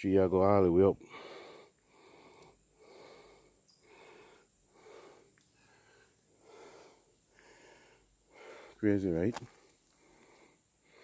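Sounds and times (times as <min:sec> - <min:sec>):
person breathing heavily: 0:01.0 - 0:08.8, 0:09.5 - 0:11.0.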